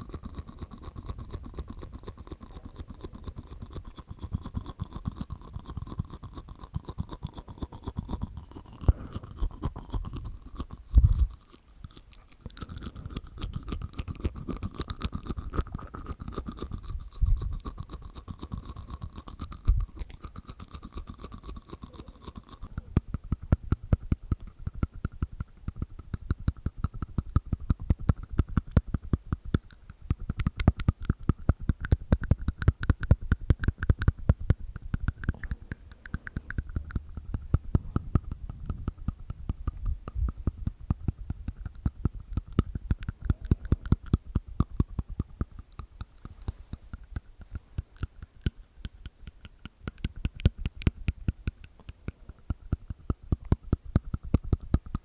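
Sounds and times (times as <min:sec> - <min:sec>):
mouth pops: 0:00.0 - 0:55.0
wet mouth clicks and smacks: 0:00.0 - 0:55.0.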